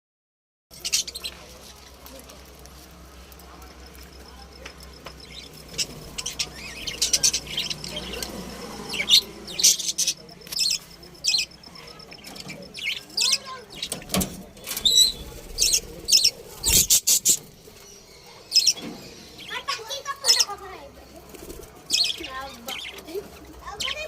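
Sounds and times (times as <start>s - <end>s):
lovebirds chirping: 0.7s - 24.0s.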